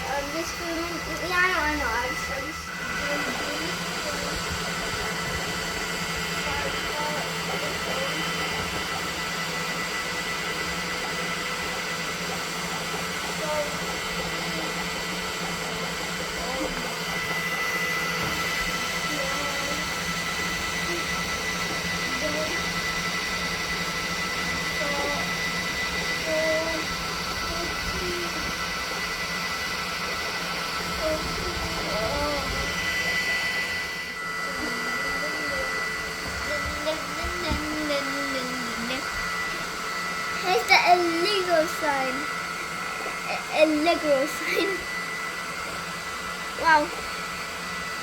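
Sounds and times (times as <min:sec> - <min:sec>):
printer cooling fans whirring: 0:00.0 - 0:48.0.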